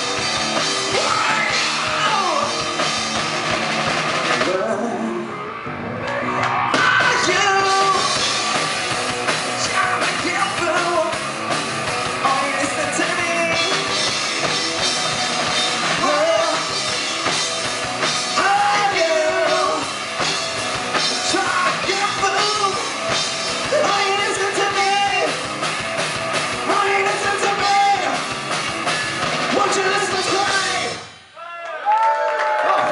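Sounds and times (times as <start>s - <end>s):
drum kit: 0.0s - 5.0s, 6.1s - 31.4s
electric guitar: 0.0s - 31.2s
bass guitar: 0.0s - 31.3s.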